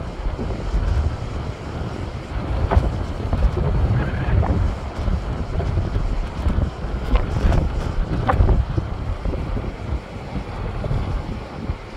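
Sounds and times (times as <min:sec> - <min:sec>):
waves breaking on rocks: 0:00.0 - 0:11.9
wind rumble on microphone: 0:00.0 - 0:11.9.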